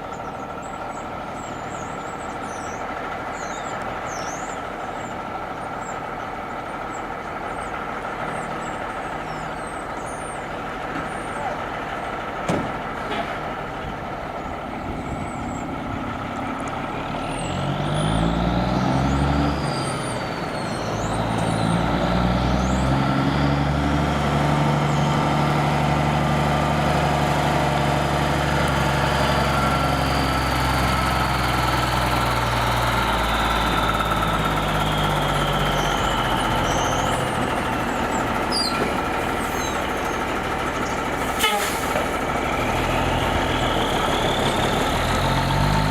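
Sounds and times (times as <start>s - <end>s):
engine whine: 0.0s - 45.9s
truck diesel engine accelerating: 0.0s - 45.9s.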